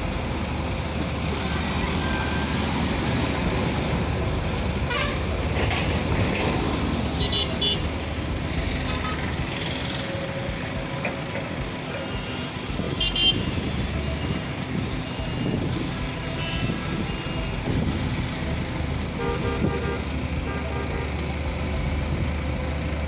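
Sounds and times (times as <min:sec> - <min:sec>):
engine and road traffic noise: 0:00.0 - 0:23.0.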